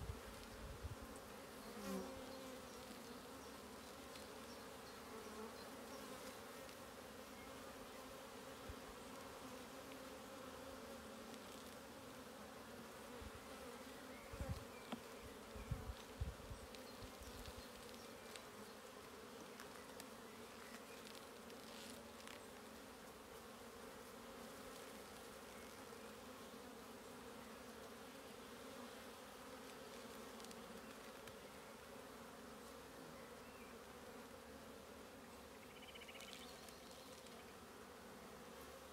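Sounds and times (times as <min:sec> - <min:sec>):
bees humming: 0:00.0 - 0:38.9.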